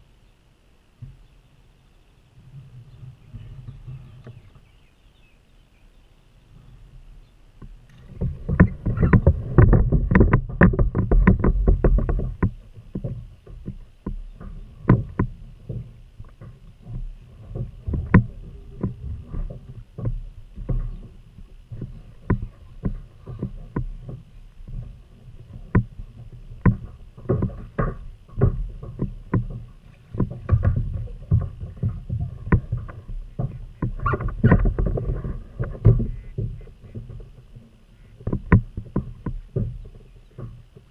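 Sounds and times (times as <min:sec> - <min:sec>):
knocks and taps on a kayak: 0:07.6 - 0:40.9.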